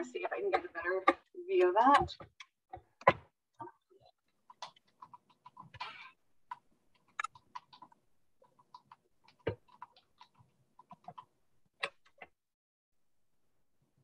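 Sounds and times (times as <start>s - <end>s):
faint clicks and taps: 0.1s - 12.4s.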